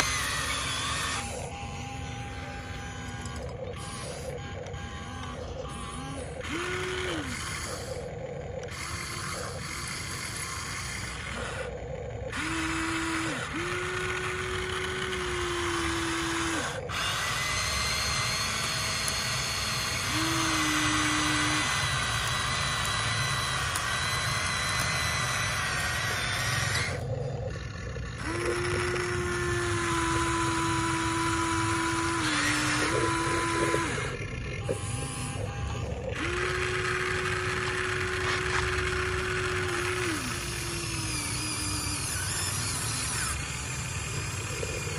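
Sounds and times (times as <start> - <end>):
electric motors whining: 0.0 - 44.9
steady mechanical hum: 0.0 - 44.9.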